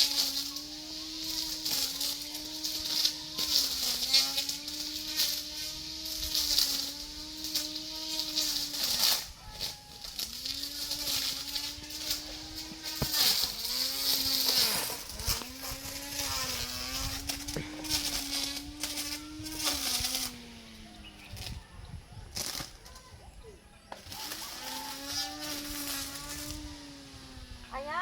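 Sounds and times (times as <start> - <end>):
hiss of cutting: 0.0 - 21.6, 24.0 - 28.0
brush cutter running: 0.0 - 23.0, 23.8 - 28.0.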